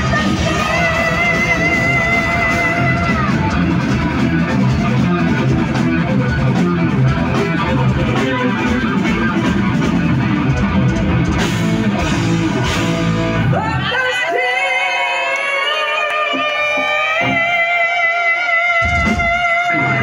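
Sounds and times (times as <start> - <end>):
heavy metal band playing: 0.0 - 20.0.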